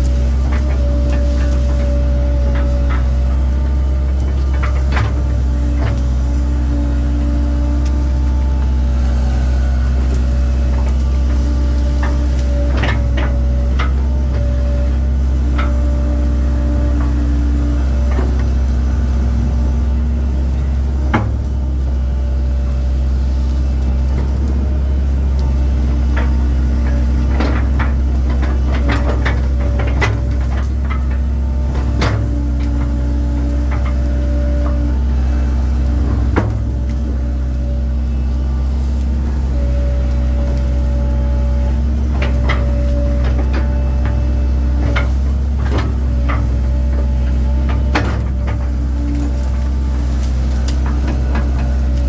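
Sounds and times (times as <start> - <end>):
excavator diesel engine running: 0.0 - 52.0
machine knocks and clanks: 0.3 - 9.1, 9.7 - 21.6, 23.8 - 35.0, 39.1 - 52.0.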